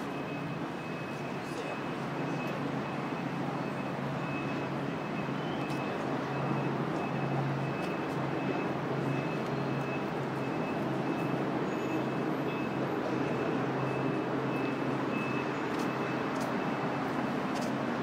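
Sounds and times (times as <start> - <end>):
street traffic engine hum: 0.0 - 18.0.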